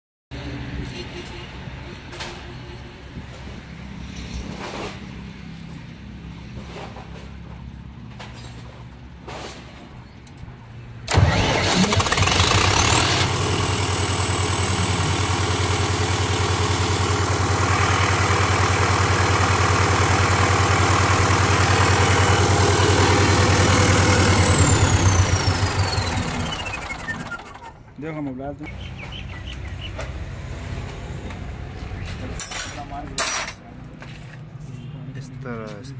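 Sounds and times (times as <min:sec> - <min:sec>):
diesel generator engine running: 0:00.4 - 0:32.4.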